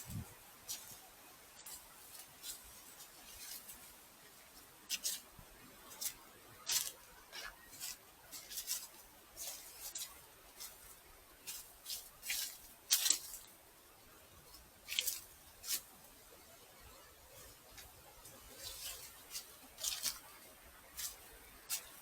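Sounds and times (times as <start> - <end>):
footsteps crunching on gravel: 0.0 - 13.6, 14.5 - 15.9, 17.6 - 22.0.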